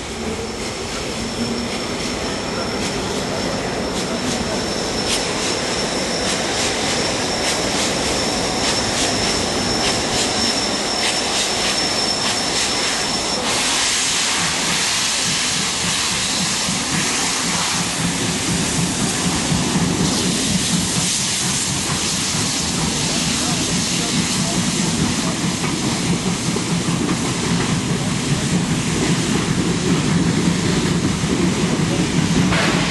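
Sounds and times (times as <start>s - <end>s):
steam hiss: 0.5s - 32.9s.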